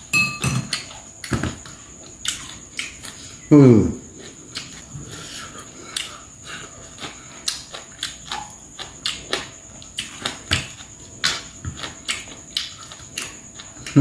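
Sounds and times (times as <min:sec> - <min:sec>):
person chewing and lip smacking: 0:00.7 - 0:03.2, 0:04.2 - 0:14.0.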